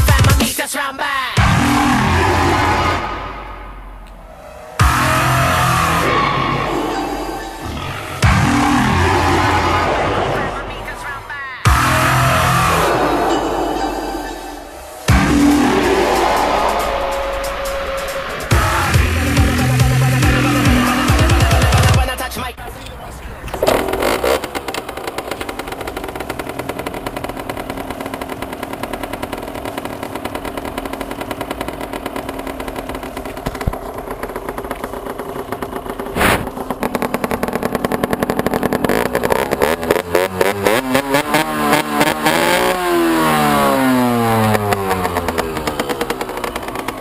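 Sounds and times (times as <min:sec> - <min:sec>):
two-stroke engine running: 0:00.0 - 0:03.2, 0:03.8 - 0:17.0, 0:18.1 - 0:47.0.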